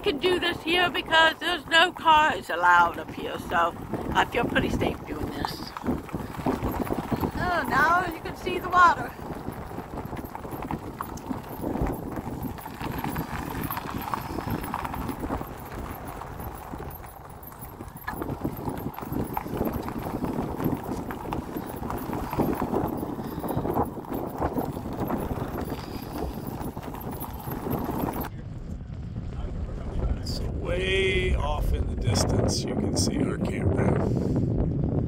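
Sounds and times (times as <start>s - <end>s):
bicycle rattling over gravel: 0.0s - 31.3s
wind buffeting microphone: 0.0s - 35.0s.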